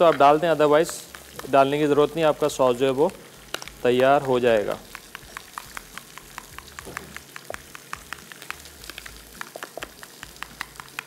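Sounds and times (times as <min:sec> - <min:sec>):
hot oil crackling and spitting: 0:00.0 - 0:11.0.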